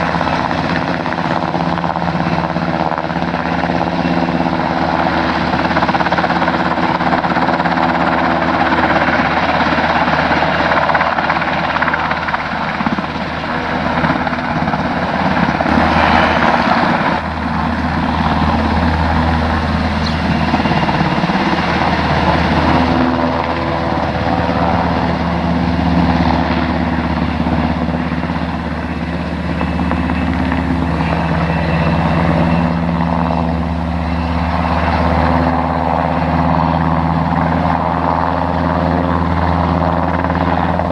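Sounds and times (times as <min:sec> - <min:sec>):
helicopter rotor and engine: 0:00.0 - 0:40.9.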